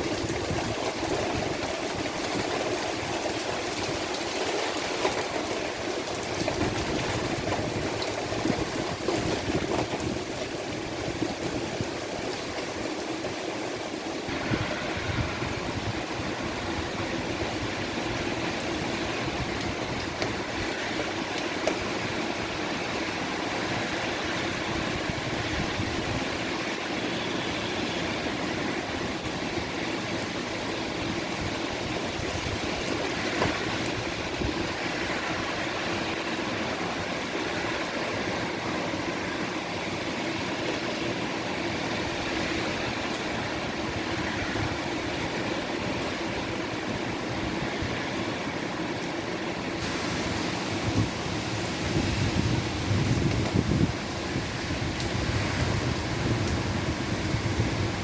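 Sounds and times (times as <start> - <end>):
heavy rain: 0.0 - 58.0
sharp rain taps: 0.0 - 58.0.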